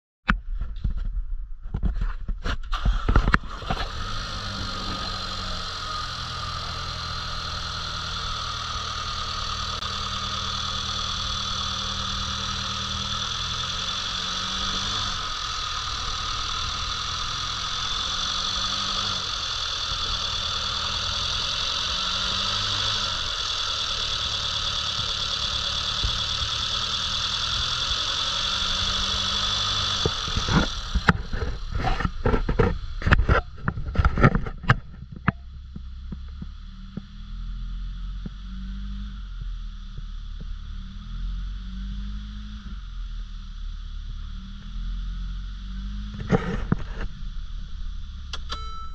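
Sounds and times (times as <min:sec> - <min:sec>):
high whine: 0:01.7 - 0:48.9
car engine starting and idling: 0:02.6 - 0:48.9.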